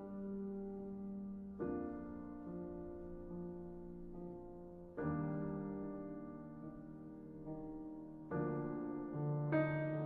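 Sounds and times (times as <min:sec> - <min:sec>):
slow piano-like keyboard chords: 0:00.0 - 0:10.0.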